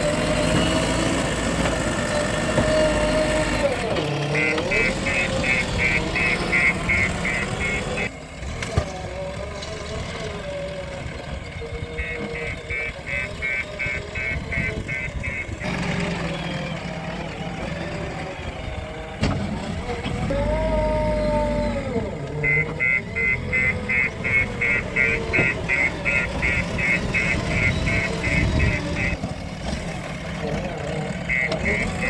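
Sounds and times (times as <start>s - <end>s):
diesel machinery running: 0.0s - 32.0s
engine revving: 0.0s - 32.0s.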